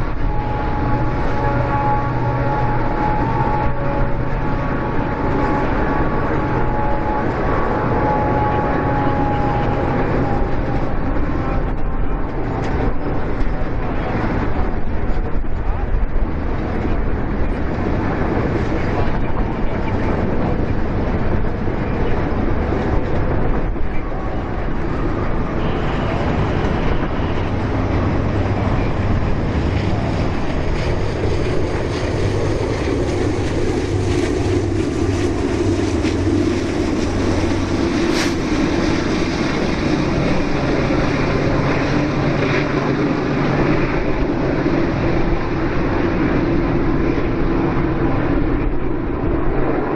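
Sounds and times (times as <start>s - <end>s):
freight train diesel locomotives rumbling: 0.0s - 49.9s.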